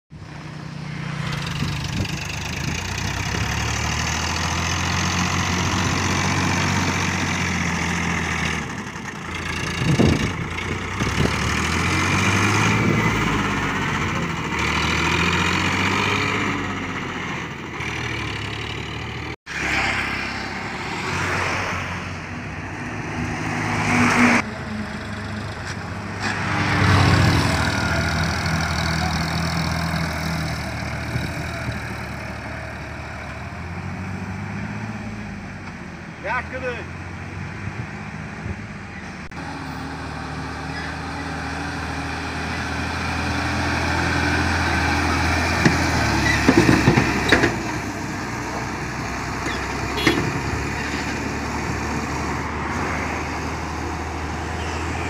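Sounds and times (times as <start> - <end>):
diesel tractor engine under load: 0.1 - 55.0.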